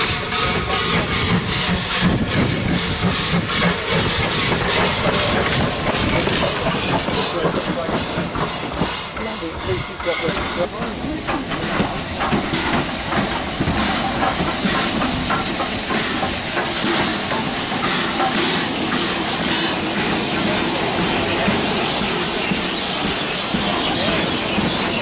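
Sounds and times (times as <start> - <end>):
steam locomotive hissing steam: 0.0 - 25.0.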